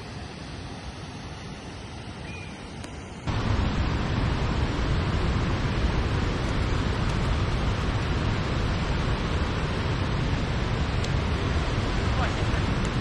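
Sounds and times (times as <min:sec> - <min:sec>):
rushing mountain water: 0:00.0 - 0:13.0.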